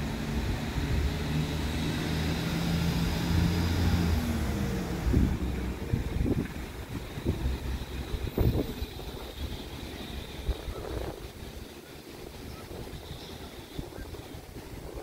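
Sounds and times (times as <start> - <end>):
engine droning: 0.0 - 15.0
wind buffeting microphone: 0.0 - 15.0.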